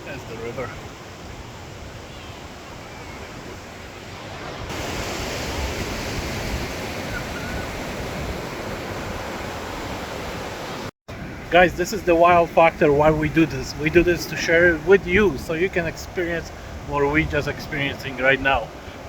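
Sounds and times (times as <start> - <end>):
wind buffeting microphone: 0.8 - 19.0.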